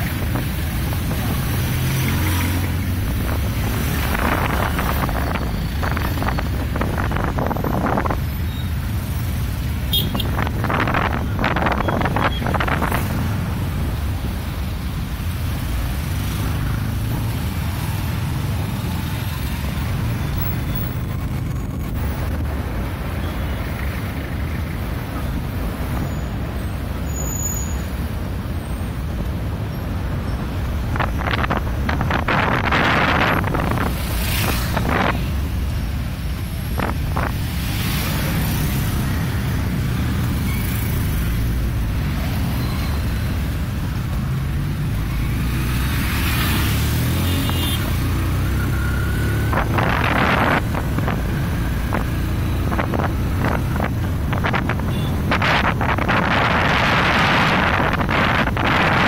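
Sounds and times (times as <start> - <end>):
street noise: 0.0 - 59.0.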